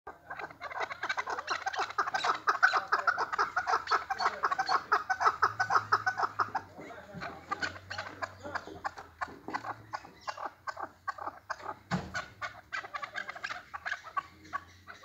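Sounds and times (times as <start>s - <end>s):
partridge chuckling calls: 0.1s - 15.0s.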